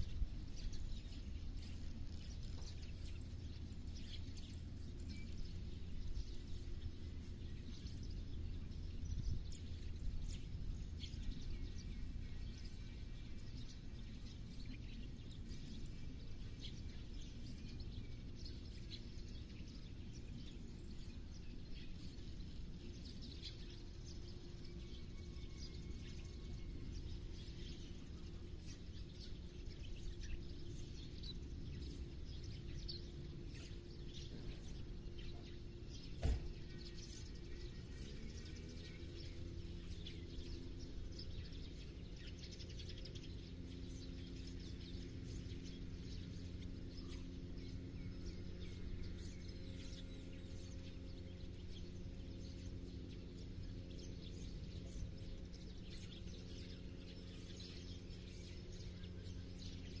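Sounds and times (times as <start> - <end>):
small birds chirping: 0.0 - 60.0
steady low hum: 0.0 - 60.0.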